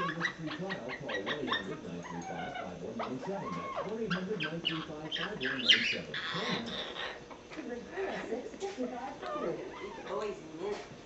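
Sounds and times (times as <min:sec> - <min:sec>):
pet whining: 0:00.0 - 0:10.9.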